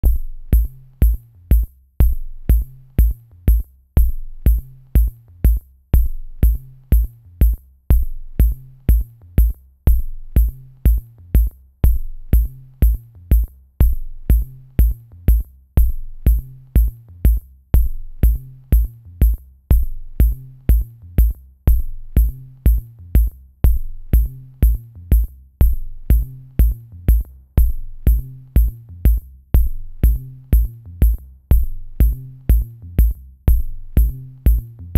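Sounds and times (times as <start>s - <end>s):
bass line: 0.0s - 34.9s
kick drum beat: 0.0s - 34.9s.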